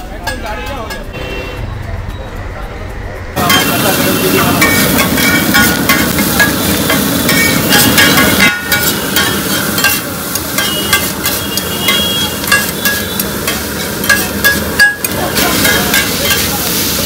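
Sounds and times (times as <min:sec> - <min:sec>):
food sizzling: 0:00.0 - 0:17.0.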